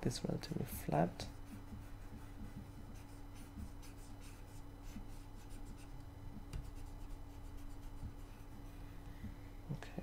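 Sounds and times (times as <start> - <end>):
faint low hum: 0.0 - 10.0
stylus scratching on tablet: 0.5 - 8.8.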